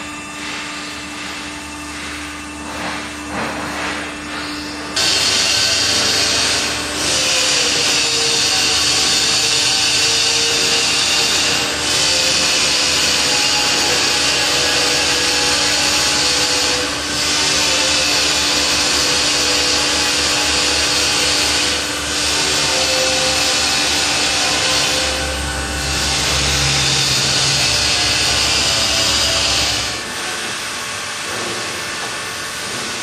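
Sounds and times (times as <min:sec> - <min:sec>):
loud steady hissing rush: 0:05.0 - 0:31.6.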